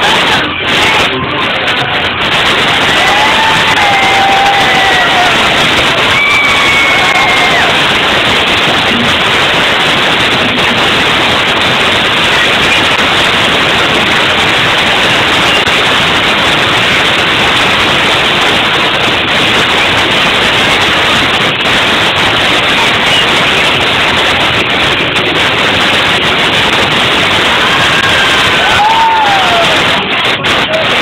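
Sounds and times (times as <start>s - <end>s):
party crowd noise: 0.0s - 31.0s.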